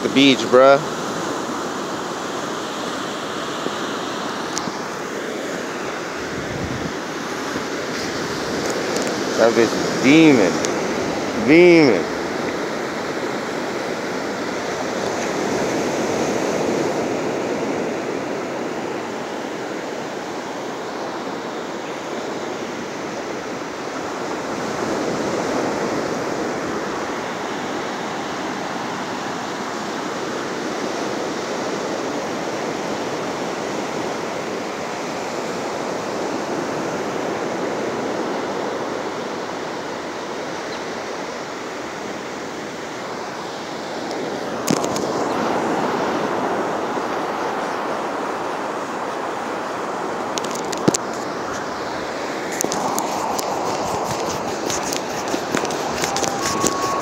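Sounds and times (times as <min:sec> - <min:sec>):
ocean surf breaking: 0:00.0 - 0:57.0
wind: 0:00.0 - 0:57.0.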